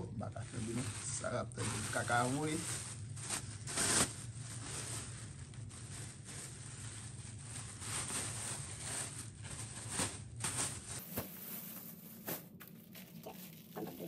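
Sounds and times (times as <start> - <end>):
plastic bag rustling: 0.2 - 14.0.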